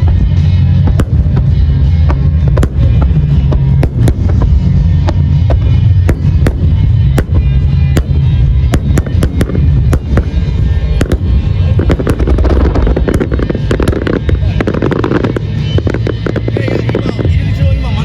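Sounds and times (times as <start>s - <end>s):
deep rumble: 0.0s - 18.0s
music playing: 0.0s - 18.0s.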